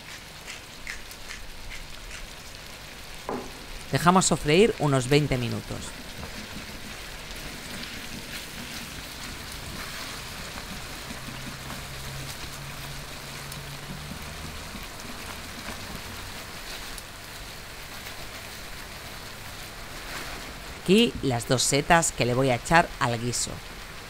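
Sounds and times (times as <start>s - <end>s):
vegetables sizzling in a pan: 0.0s - 21.0s.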